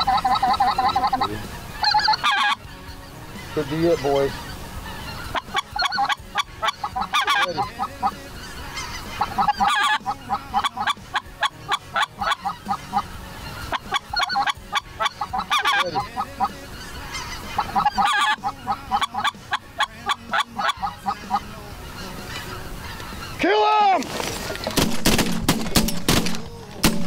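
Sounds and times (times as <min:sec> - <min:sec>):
flock of geese honking: 0:00.0 - 0:25.1.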